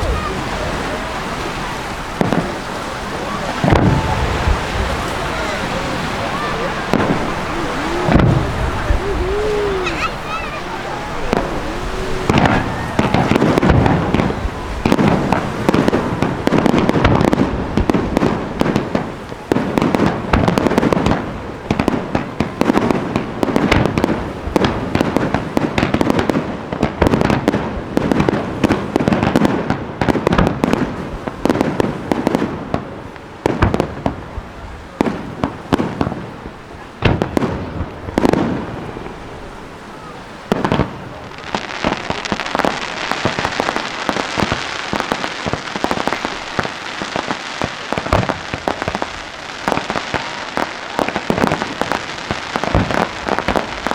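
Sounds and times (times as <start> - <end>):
fireworks launching and bursting: 0.0 - 39.2, 40.4 - 53.9.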